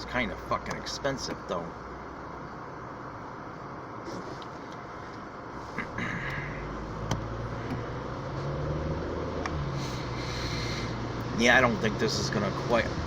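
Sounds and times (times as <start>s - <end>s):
low engine hum: 0.0s - 13.0s
road noise in car cabin: 0.0s - 13.0s.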